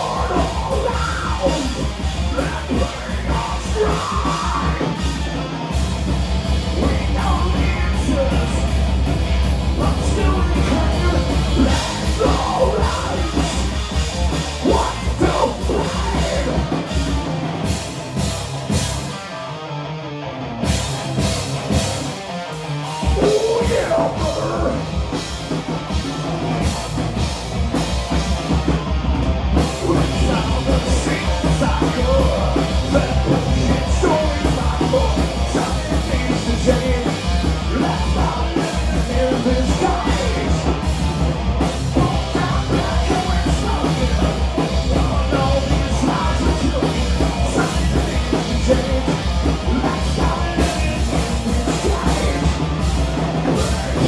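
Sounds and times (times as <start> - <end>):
heavy metal band playing: 0.0 - 54.0.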